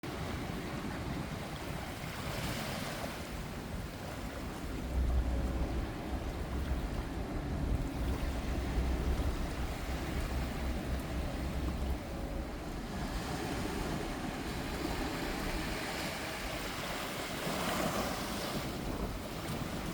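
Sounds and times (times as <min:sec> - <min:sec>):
waves breaking on shore: 0:00.0 - 0:19.9
wind rumble on microphone: 0:00.0 - 0:19.9.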